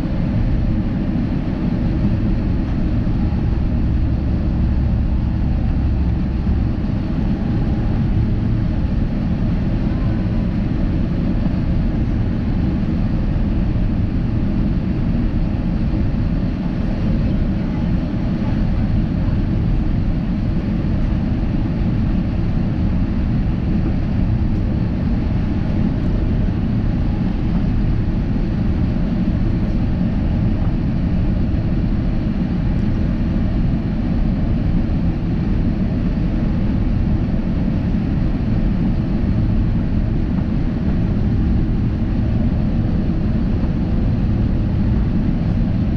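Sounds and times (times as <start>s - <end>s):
airliner cabin rumble: 0.0s - 45.9s.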